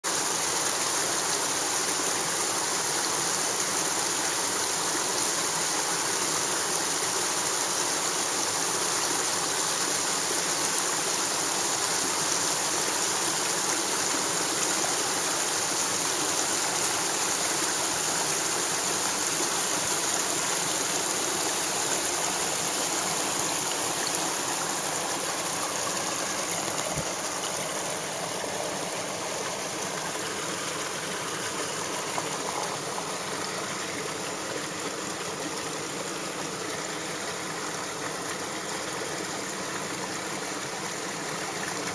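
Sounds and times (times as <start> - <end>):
stream flowing over boulders: 0.0 - 41.9.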